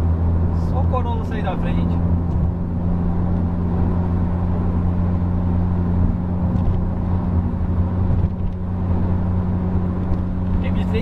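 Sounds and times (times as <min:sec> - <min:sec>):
car engine and tyres droning: 0:00.0 - 0:11.0.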